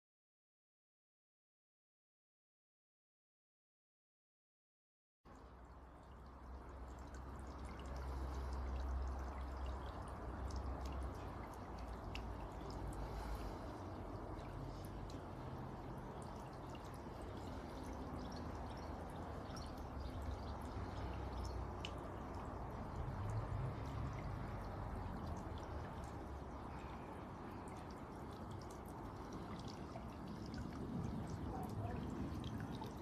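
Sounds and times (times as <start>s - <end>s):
fountain water trickling and dripping: 5.3s - 33.0s.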